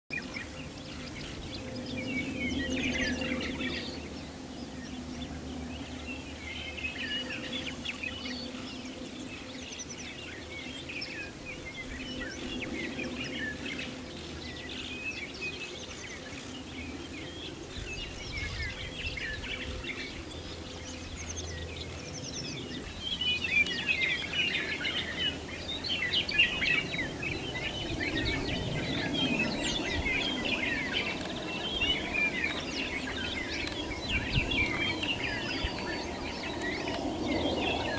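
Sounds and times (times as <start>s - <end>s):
small birds chirping: 0.1s - 37.9s.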